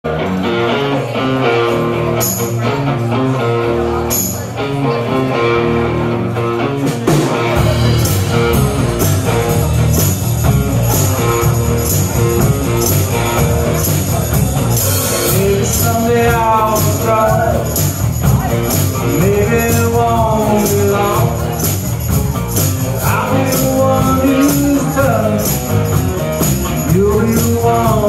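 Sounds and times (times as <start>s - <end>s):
electric guitar riff: 0.1s - 28.0s
live rock band playing: 0.1s - 28.0s.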